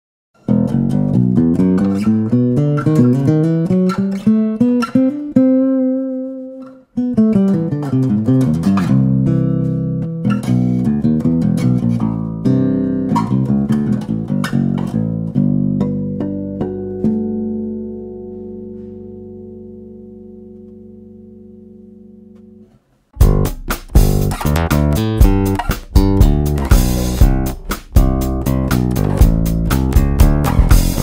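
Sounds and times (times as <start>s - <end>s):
plucked acoustic bass guitar: 0.4s - 31.0s.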